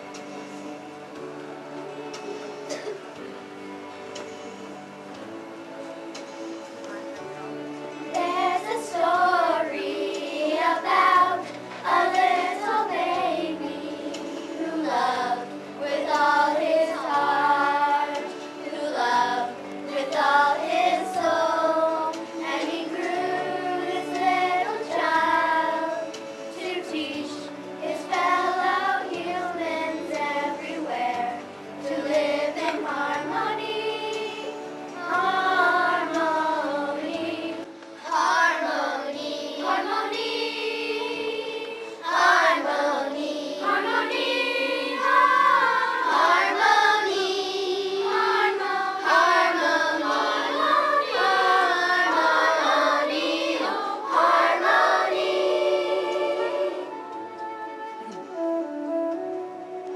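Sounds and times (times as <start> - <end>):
children's choir singing: 0.0 - 5.3, 6.9 - 59.9.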